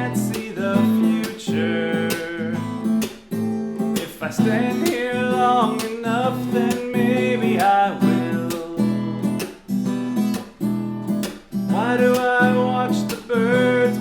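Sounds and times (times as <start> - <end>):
acoustic guitar strumming chords: 0.0 - 14.0
gliding guitar melody: 0.0 - 14.0.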